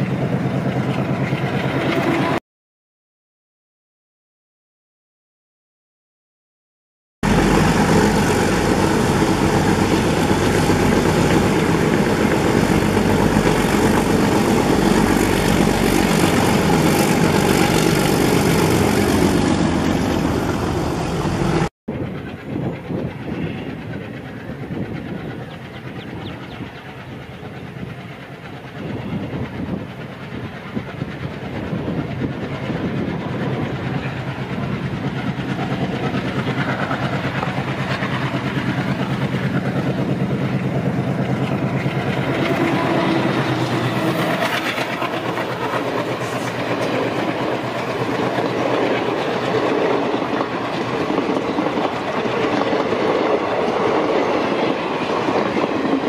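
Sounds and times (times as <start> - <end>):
diesel locomotive engine chugging: 0.0 - 2.4, 7.2 - 56.0
train coaches clattering on track: 7.5 - 56.0.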